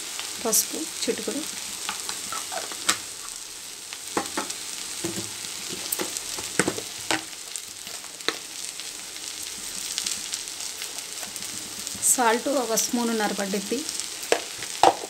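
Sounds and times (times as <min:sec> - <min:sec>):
greens sizzling in oil: 0:00.0 - 0:15.0
sharp crackles and pops: 0:00.0 - 0:15.0.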